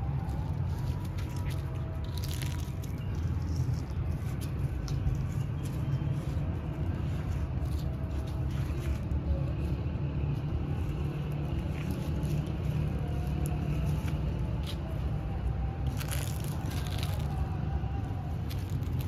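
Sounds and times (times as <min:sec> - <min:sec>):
distant road traffic rumble: 0:00.0 - 0:19.0.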